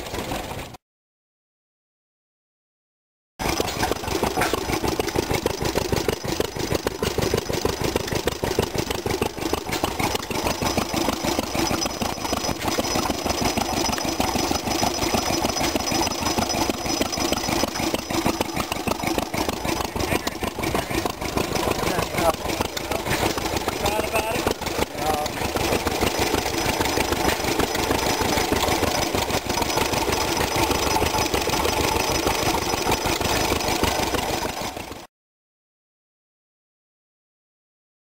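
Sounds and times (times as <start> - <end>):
stationary gas engines running: 0.0 - 0.8, 3.4 - 35.1.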